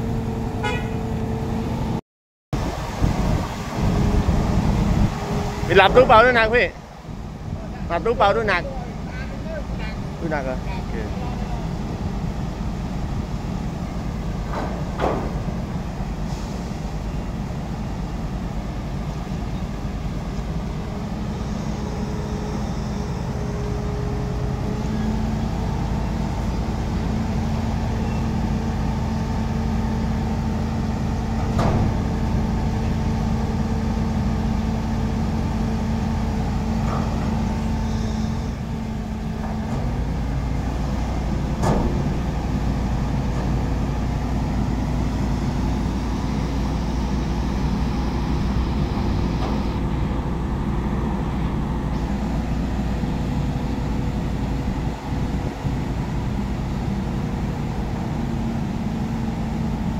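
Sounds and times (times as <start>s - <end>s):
heavy diesel engine running: 2.6s - 59.9s.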